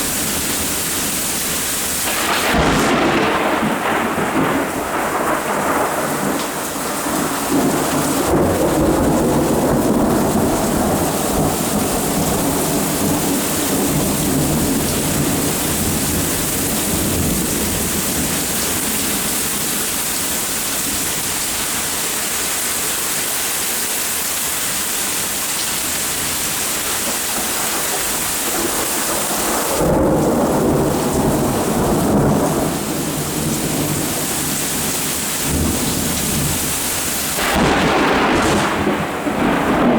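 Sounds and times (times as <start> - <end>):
thunder rumbling: 0.0 - 21.4, 26.4 - 39.9
heavy rain: 0.0 - 39.9.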